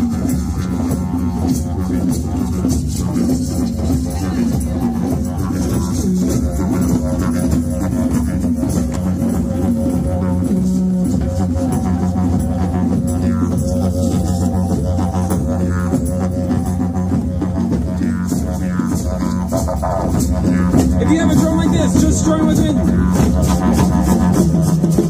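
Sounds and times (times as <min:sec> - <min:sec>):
didgeridoo drone: 0:00.0 - 0:25.0
hand drums beating: 0:00.0 - 0:25.0.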